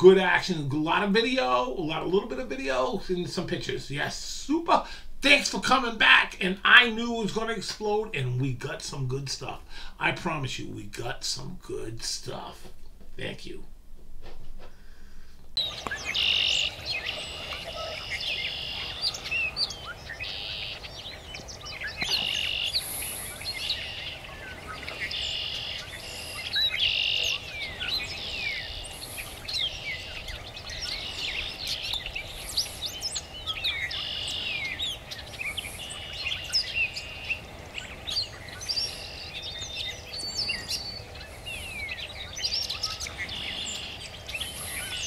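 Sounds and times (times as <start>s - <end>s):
songbirds chirping and whistling: 0.0s - 13.7s, 14.6s - 45.0s
faint background noise: 0.0s - 45.0s.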